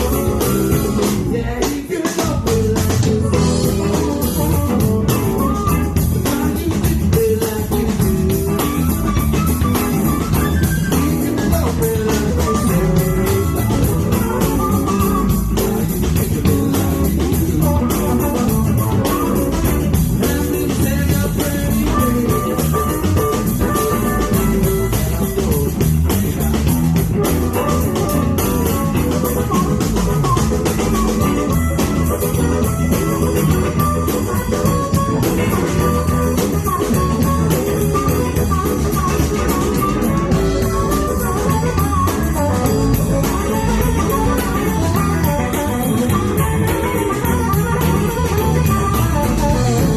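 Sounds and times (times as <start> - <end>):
blues band playing: 0.0 - 49.9.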